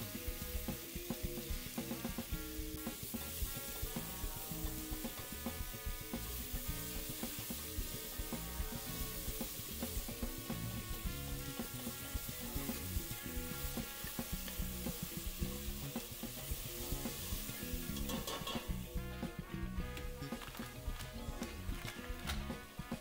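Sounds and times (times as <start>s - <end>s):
background music: 0.0s - 23.0s
onions sizzling in pot: 0.0s - 23.0s
tongs scraping metal pot: 0.1s - 23.0s.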